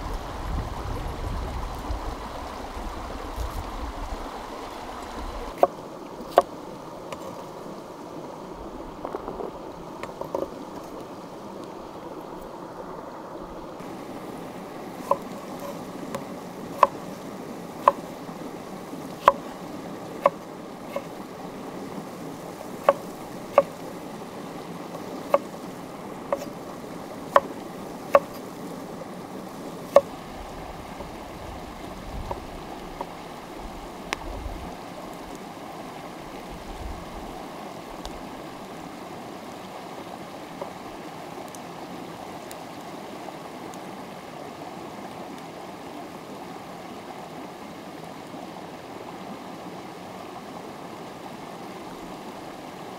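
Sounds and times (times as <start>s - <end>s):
stream flowing: 0.0s - 52.9s.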